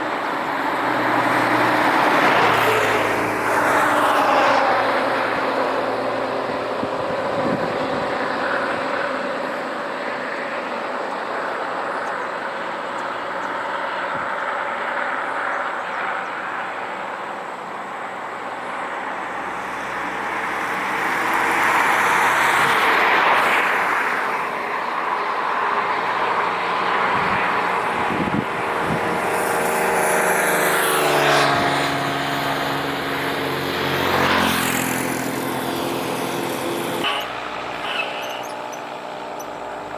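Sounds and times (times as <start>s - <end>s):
vehicles passing: 0.0s - 39.9s.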